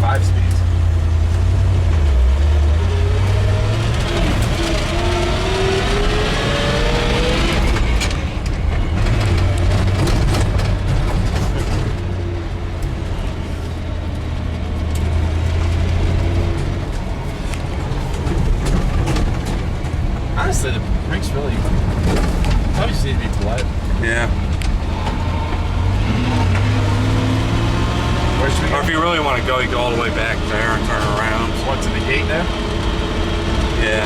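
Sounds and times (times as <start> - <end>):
truck engine accelerating: 0.0 - 34.0.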